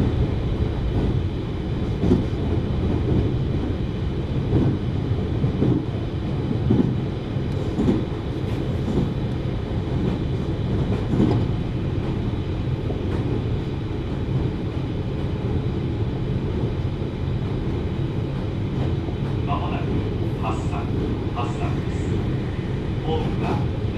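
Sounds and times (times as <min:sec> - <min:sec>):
wheels rumbling on rail: 0:00.0 - 0:23.9.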